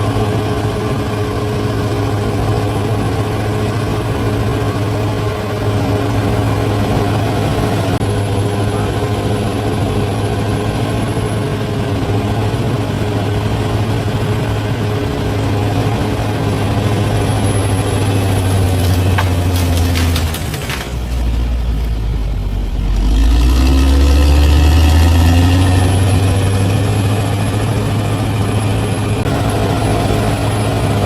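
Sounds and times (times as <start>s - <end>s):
bulldozer diesel engine humming: 0.0s - 31.0s.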